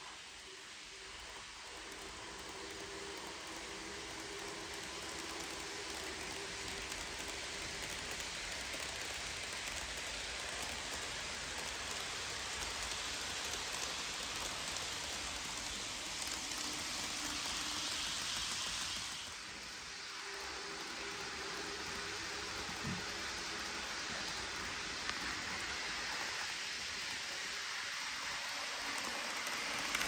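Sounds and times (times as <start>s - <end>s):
model train wheels on rails: 0.0s - 30.0s.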